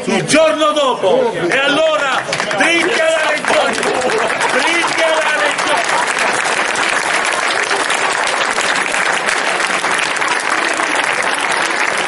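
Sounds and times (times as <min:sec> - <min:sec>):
crowd applauding: 0:02.0 - 0:12.0.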